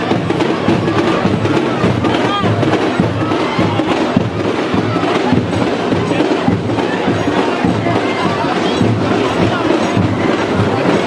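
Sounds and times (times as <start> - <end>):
loud music with drumming: 0.0 - 11.0.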